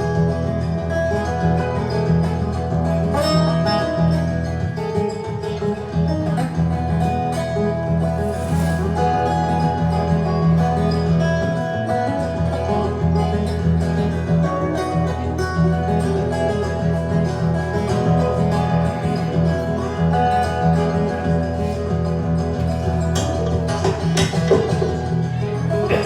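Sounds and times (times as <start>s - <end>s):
plucked string instruments: 0.0s - 26.0s
strong bass: 0.0s - 26.0s.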